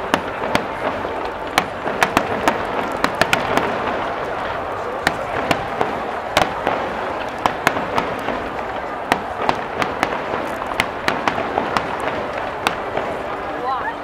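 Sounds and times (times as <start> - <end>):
firework shells bursting: 0.0 - 13.5.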